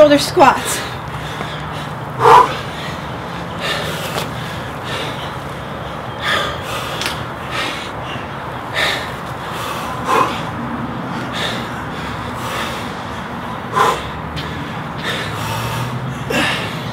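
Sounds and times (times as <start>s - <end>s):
person breathing hard: 0.6s - 16.9s.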